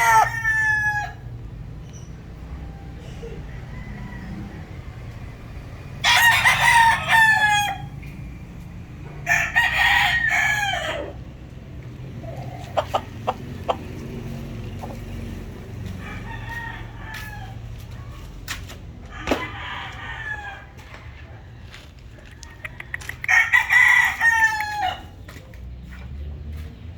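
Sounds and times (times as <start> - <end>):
roosters crowing: 0.0 - 25.4.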